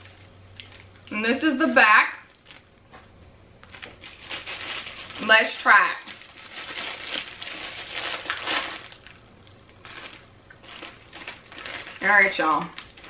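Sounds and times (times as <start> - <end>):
crisp packet crinkling: 0.0 - 1.1, 2.2 - 2.8, 3.6 - 13.0.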